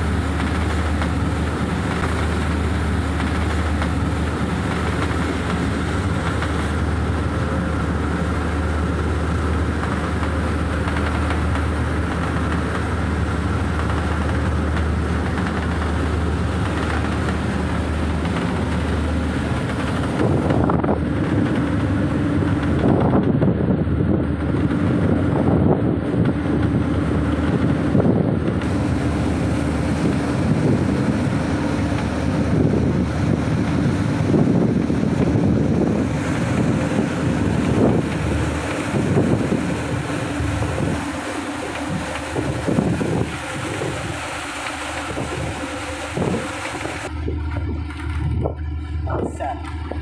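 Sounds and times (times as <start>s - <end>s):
boat engine droning: 0.0s - 50.0s
waves rushing along hull: 0.0s - 50.0s
wind buffeting microphone: 0.0s - 50.0s.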